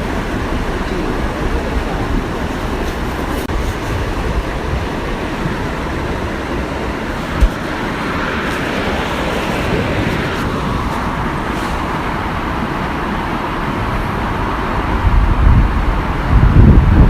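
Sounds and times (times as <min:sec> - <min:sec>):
waterfall rushing: 0:00.0 - 0:17.0
wind buffeting microphone: 0:00.0 - 0:17.0.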